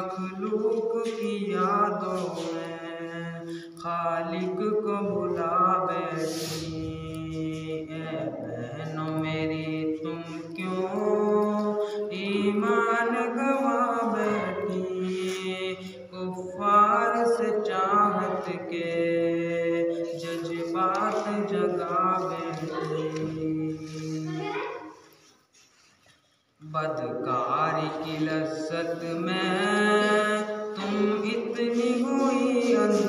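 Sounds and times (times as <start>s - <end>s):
young man singing into a microphone: 0.0s - 24.3s, 26.6s - 33.0s.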